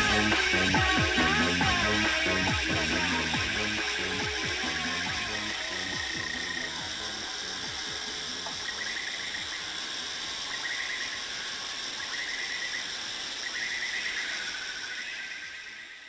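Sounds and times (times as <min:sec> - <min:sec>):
insect chorus high buzz: 0:00.0 - 0:16.0
pulsing insect trill: 0:00.0 - 0:16.0.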